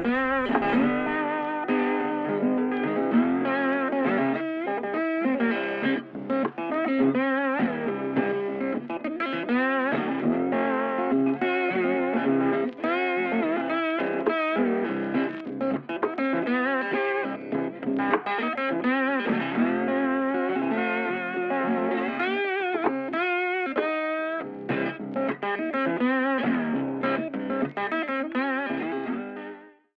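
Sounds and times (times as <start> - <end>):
electric guitar instrumental: 0.0 - 29.9.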